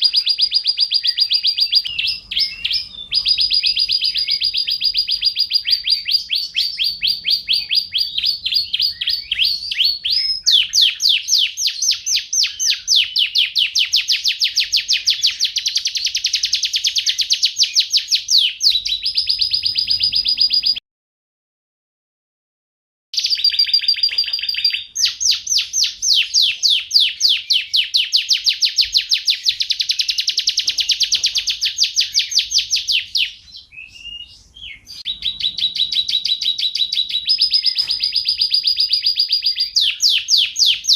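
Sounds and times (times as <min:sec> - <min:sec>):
canary singing trills: 0:00.0 - 0:20.8, 0:23.2 - 0:40.9.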